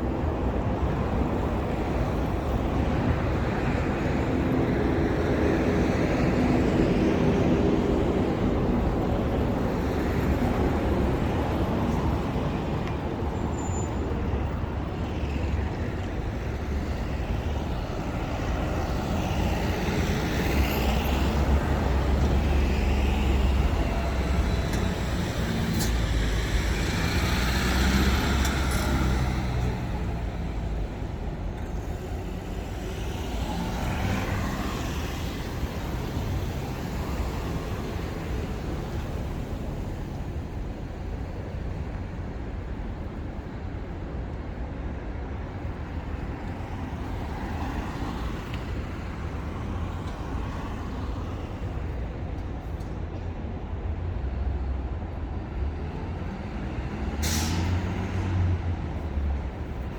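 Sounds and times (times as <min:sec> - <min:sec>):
cars and trucks passing: 0:00.0 - 0:59.9.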